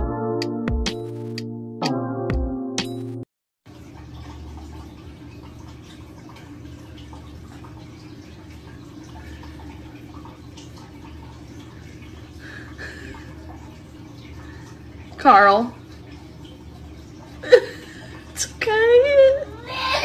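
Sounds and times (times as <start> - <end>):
low room hum: 3.7 - 20.0.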